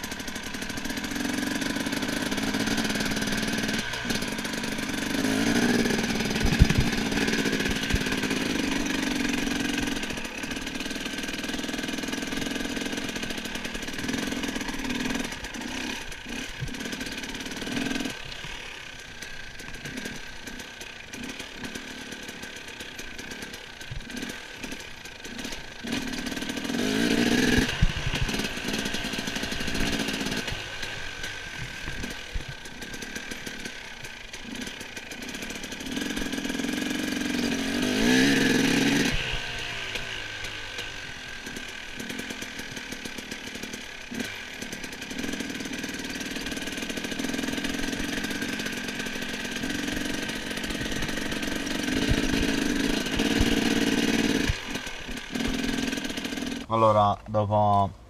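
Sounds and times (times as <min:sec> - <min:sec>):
motocross bike engine revving: 0:00.0 - 0:57.8.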